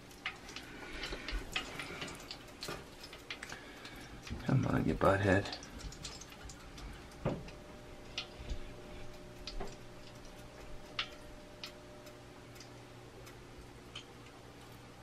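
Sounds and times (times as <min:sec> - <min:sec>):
faint ticks and clicks: 0:00.0 - 0:15.0
low steady hum: 0:00.0 - 0:15.0.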